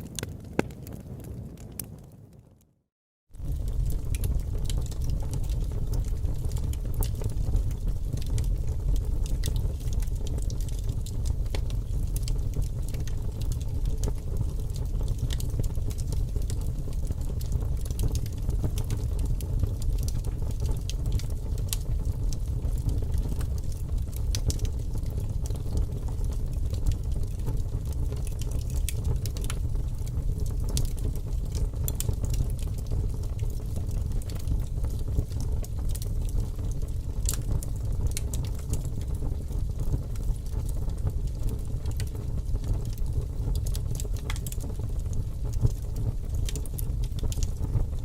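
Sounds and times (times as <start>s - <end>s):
fire crackling: 0.0s - 2.8s, 3.4s - 48.0s.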